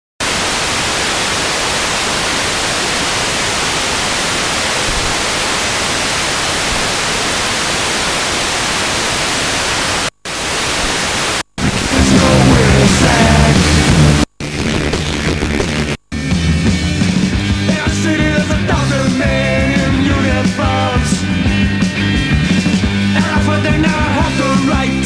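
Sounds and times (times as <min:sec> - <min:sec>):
radio tuner static hiss: 0:00.2 - 0:24.7.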